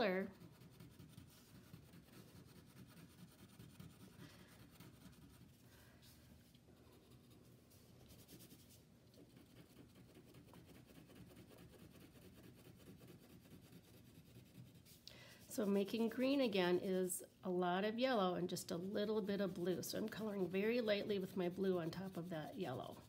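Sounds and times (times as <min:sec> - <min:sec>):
crayon scratching on paper: 0:00.0 - 0:05.6, 0:06.8 - 0:16.5, 0:18.6 - 0:23.0.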